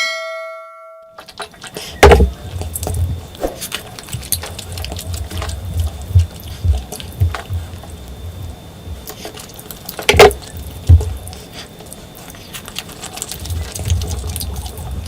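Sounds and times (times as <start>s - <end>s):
wet chewing and mouth clicks: 1.2s - 15.0s.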